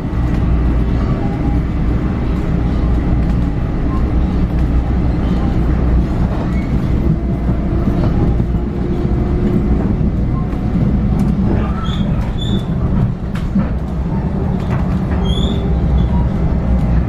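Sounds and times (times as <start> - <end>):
train car rumbling on track: 0.0 - 17.0.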